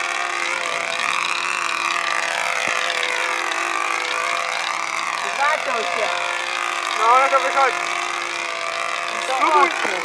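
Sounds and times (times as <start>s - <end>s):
model airplane engine buzzing: 0.0s - 10.0s.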